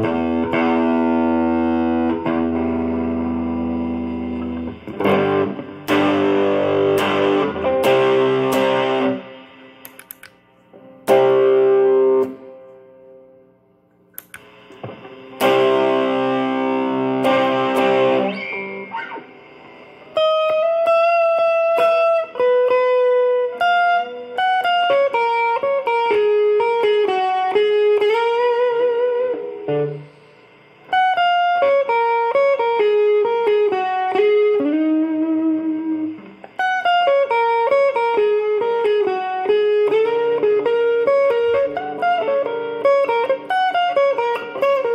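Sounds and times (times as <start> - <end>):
electric guitar: 0.0 - 44.9.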